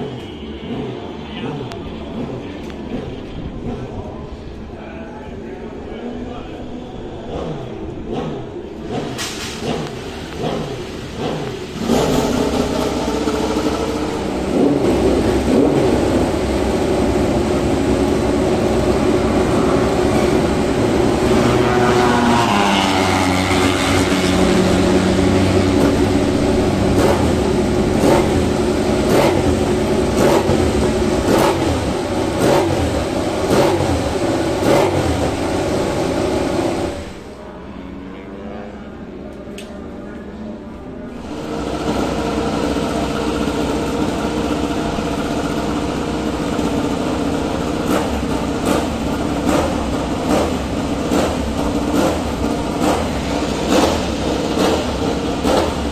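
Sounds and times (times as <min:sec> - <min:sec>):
motorcycle engines revving: 0:00.0 - 0:04.6, 0:07.0 - 0:37.4, 0:40.6 - 0:55.9.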